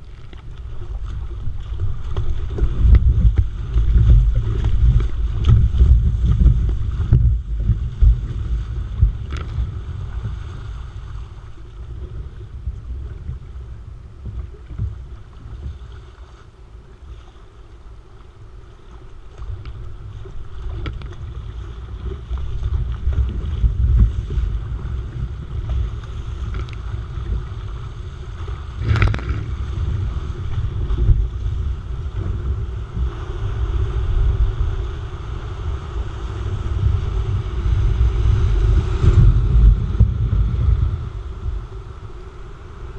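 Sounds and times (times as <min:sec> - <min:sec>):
wind buffeting microphone: 0:00.0 - 0:17.2, 0:18.5 - 0:42.9
water rushing and splashing: 0:00.0 - 0:42.9.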